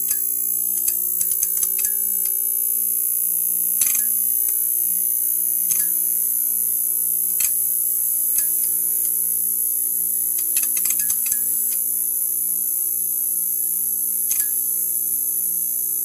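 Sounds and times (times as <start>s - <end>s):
neon sign buzzing: 0.0s - 16.0s.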